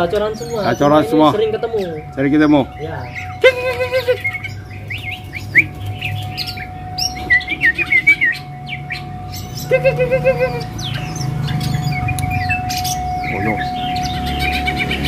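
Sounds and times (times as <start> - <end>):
loud wavering bird call: 0.0 - 15.0
songbirds chirping and whistling: 0.0 - 15.0.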